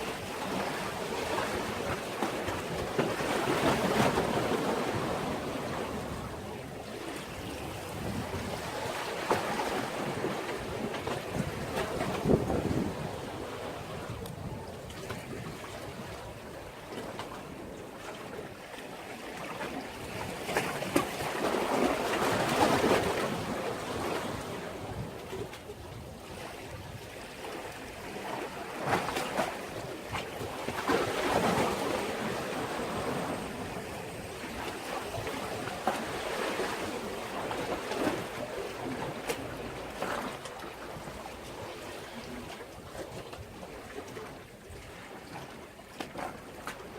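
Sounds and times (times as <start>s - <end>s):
sea waves washing against breakwater: 0.0s - 46.9s.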